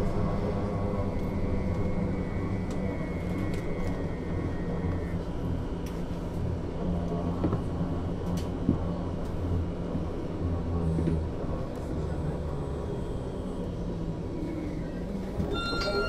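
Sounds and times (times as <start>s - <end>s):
trolleybus humming: 0.0s - 16.0s.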